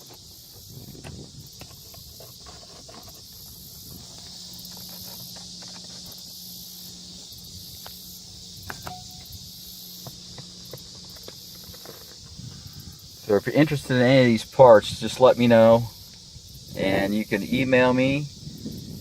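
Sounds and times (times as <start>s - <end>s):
car ventilation blower hissing: 0.0s - 19.0s.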